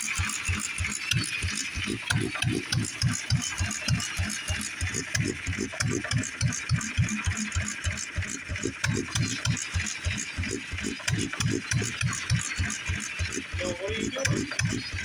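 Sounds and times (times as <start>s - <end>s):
stationary engine running: 0.0s - 15.0s.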